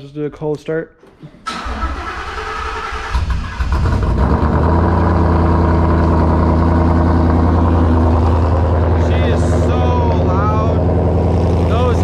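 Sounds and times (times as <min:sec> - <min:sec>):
car engine cold start idling: 0:01.5 - 0:12.0.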